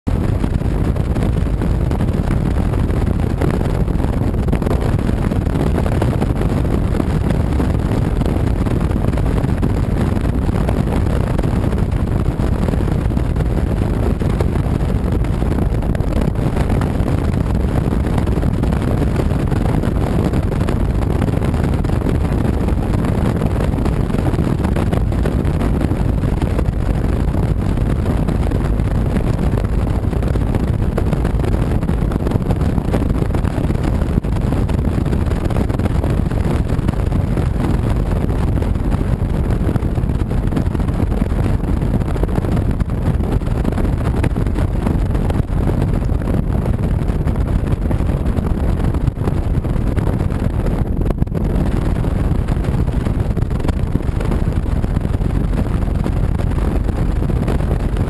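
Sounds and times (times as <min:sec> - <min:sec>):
motorcycle engine drone: 0:00.0 - 0:58.0
wind on microphone: 0:00.0 - 0:58.0.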